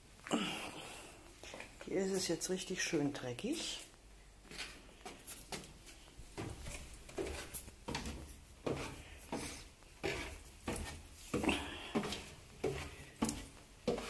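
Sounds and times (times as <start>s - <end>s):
footsteps indoors: 0.0s - 14.0s.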